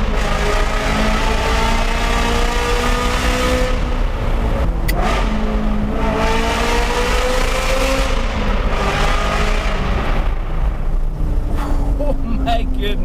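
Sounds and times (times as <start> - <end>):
car engine revving in tunnel: 0.0 - 13.0.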